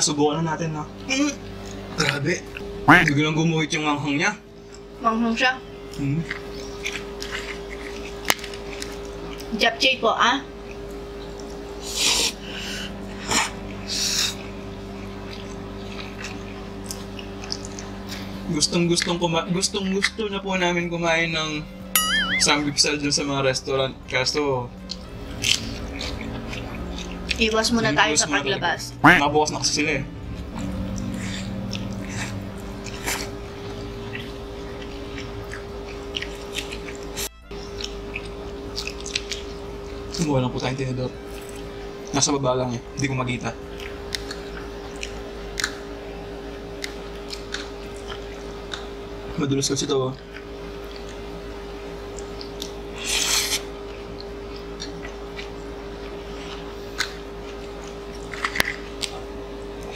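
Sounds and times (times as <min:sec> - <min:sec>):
people chewing food: 0:00.0 - 0:09.8, 0:10.4 - 0:22.2, 0:22.9 - 0:59.9
electrical hum: 0:00.0 - 0:59.9.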